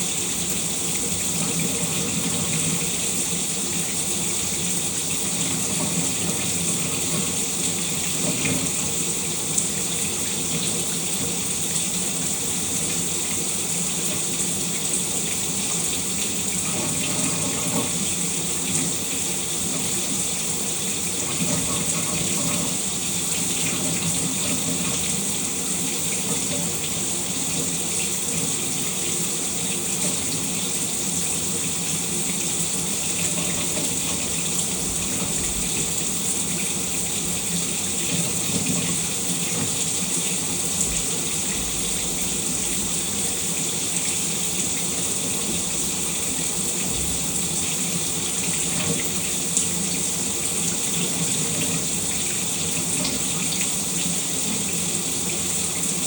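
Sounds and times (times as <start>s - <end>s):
shower running: 0.0s - 56.0s.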